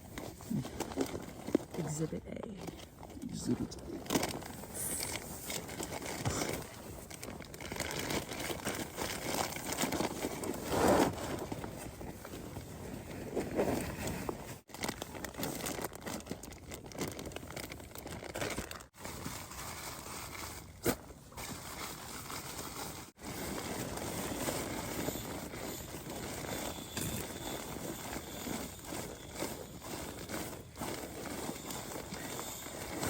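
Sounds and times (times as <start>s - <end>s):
camping gear rustling and crinkling: 0.0s - 33.0s.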